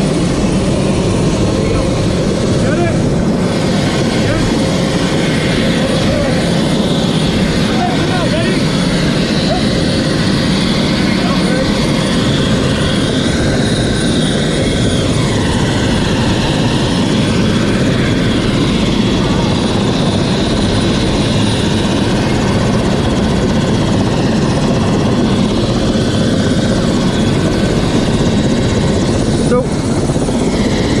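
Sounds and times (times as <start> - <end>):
helicopter engine and rotor: 0.0 - 31.0.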